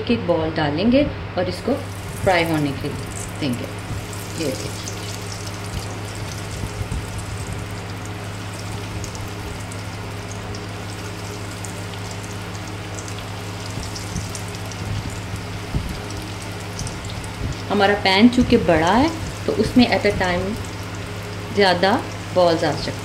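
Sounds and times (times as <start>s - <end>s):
steady low hum: 0.0s - 23.0s
hot oil sizzling and crackling: 1.7s - 23.0s.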